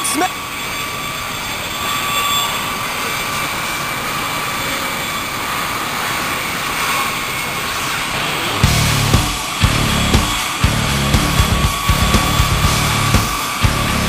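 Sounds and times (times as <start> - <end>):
tank turbine engine whine: 0.0 - 14.0.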